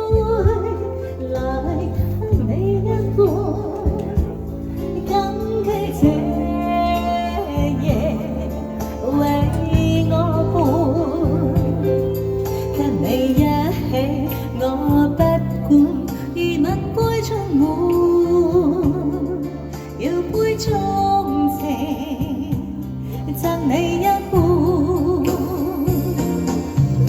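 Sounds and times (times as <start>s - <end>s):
recorded backing track: 0.0s - 27.0s
woman singing a slow ballad: 0.0s - 27.0s.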